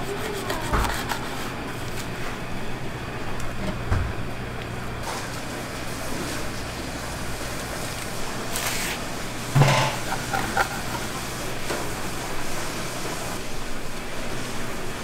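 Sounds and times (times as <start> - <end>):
food stall kitchen hum and hiss: 0.0 - 15.0.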